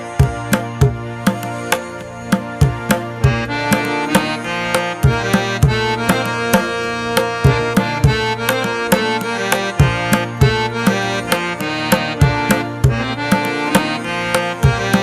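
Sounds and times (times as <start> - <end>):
background music with drum beat: 0.0 - 15.0.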